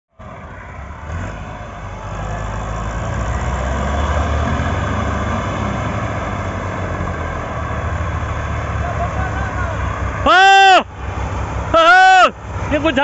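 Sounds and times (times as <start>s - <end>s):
tractor diesel engines under load: 0.1s - 13.0s.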